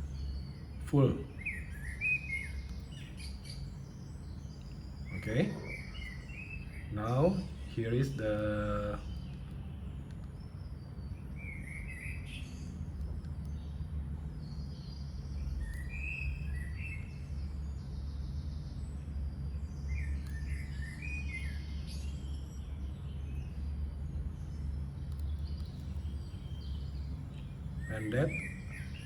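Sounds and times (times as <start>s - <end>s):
low background rumble: 0.0s - 29.0s
small birds chirping: 0.0s - 29.0s.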